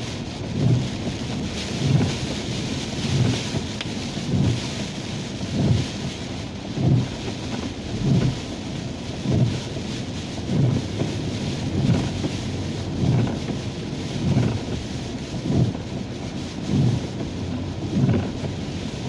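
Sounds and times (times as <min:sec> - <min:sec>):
rain on a car: 0:00.0 - 0:19.0
road noise: 0:00.0 - 0:19.0
windshield wipers sweeping: 0:00.0 - 0:19.0.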